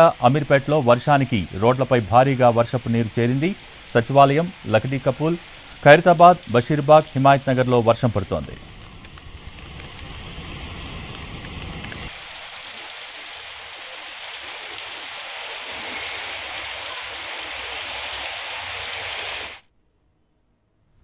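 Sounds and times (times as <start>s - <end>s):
heavy rain on streets: 0.0s - 19.6s.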